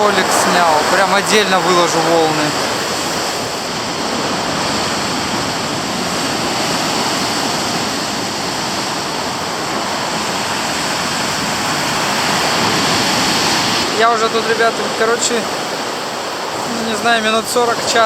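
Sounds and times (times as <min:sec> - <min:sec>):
storm surf breaking on shore: 0:00.0 - 0:18.0.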